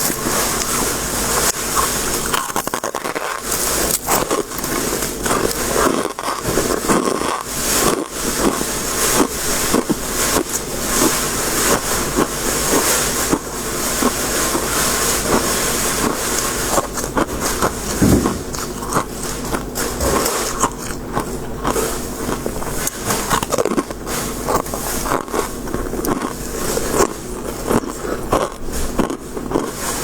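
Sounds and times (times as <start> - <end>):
frost being scraped and crunched: 0.0 - 30.0.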